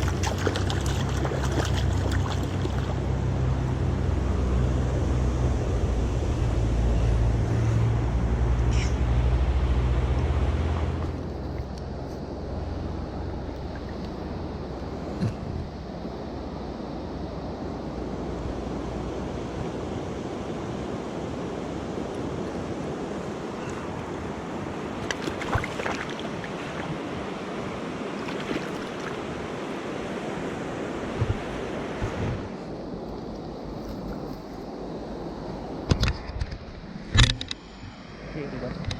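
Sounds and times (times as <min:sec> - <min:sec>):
stream flowing water: 0:00.0 - 0:38.9.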